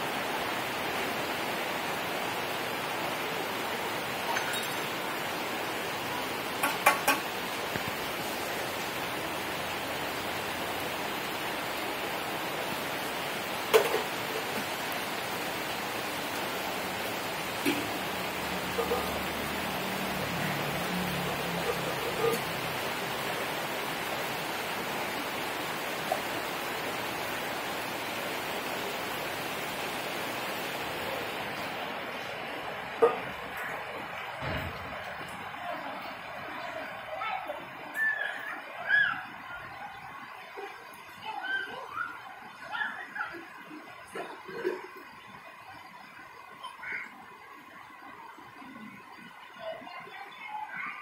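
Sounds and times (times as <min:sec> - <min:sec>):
heavy rain on trees and tiles: 0:00.0 - 0:51.0.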